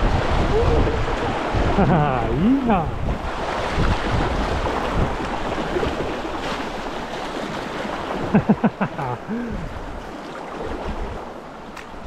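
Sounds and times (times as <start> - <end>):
river rushing and splashing: 0.0 - 12.0.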